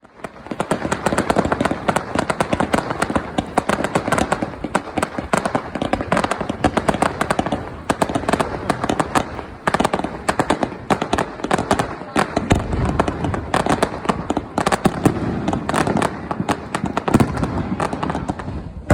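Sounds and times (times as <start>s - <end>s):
fireworks crackling and popping: 0.0s - 18.9s.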